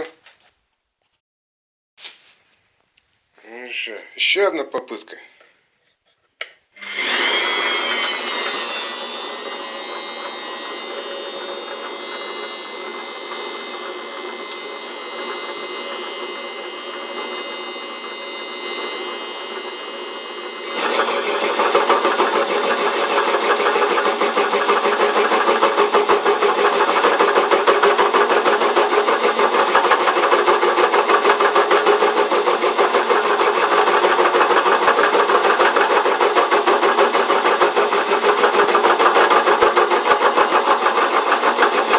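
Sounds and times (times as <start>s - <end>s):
lathe tool cutting workpiece: 6.8s - 41.9s
metal lathe whining: 6.8s - 41.9s.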